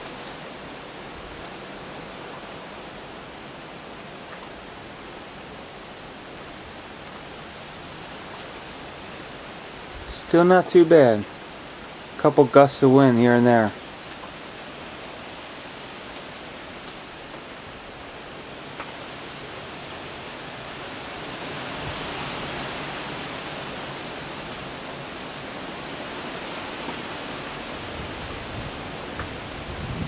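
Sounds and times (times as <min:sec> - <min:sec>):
insect chirping: 0:00.0 - 0:12.3, 0:12.9 - 0:30.0
gusty wind through trees: 0:00.0 - 0:30.0.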